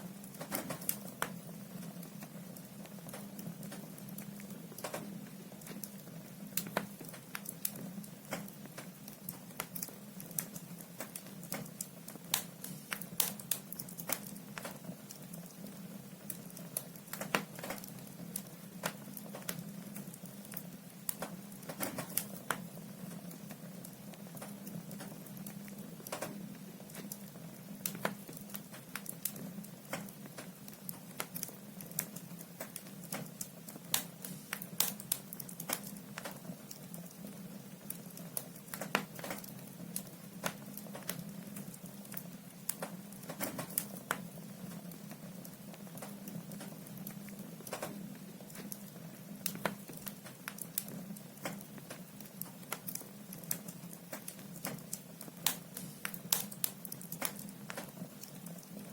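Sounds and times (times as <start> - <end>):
logs crackling and popping in fireplace: 0.0 - 58.9.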